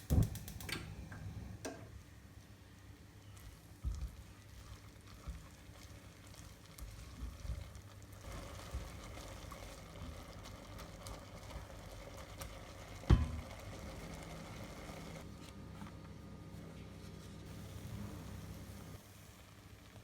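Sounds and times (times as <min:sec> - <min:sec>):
pot boiling hiss: 0:01.9 - 0:15.3, 0:17.1 - 0:20.0.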